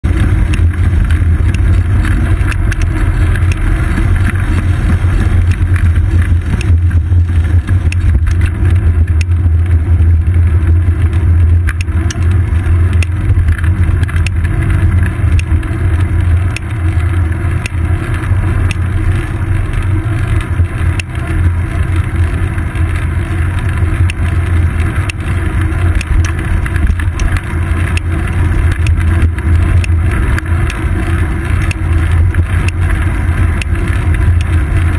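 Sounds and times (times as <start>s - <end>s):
wind and road rumble: 0.0s - 34.9s
bicycle clicks and rattles: 0.1s - 34.9s.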